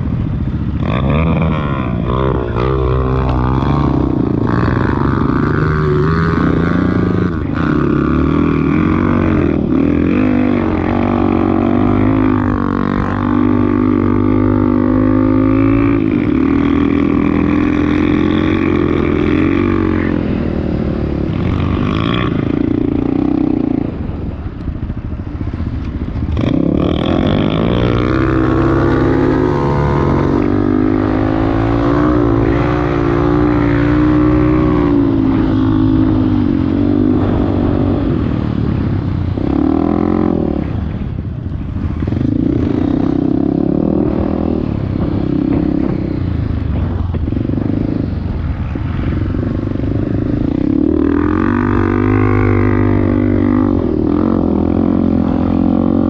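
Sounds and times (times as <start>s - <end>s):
off-road vehicle engine revving: 0.0s - 24.3s, 25.8s - 41.1s, 41.7s - 56.0s.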